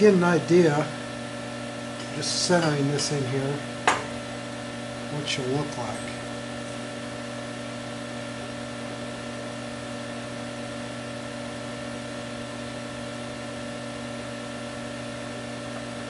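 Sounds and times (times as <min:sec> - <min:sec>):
machine hum with constant tones: 0:00.0 - 0:16.0.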